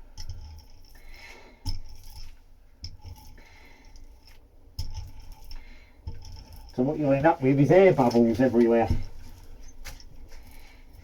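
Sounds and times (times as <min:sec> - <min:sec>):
roller squishing wet resin: 0:00.0 - 0:11.0.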